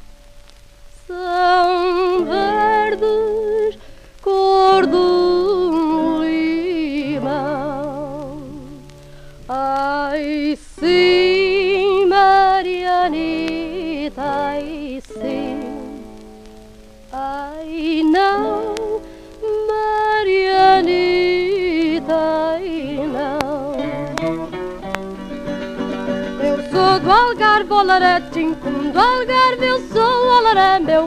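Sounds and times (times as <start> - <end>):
old gramophone popular music: 0.0 - 31.0.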